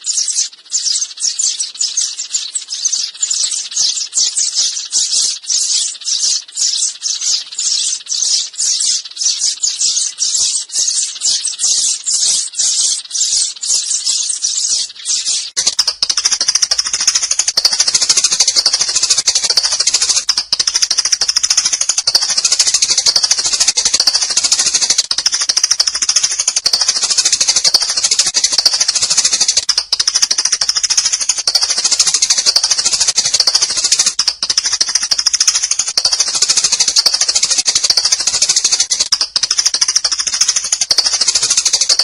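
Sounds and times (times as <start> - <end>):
sparrows chirping: 0.0 - 42.0.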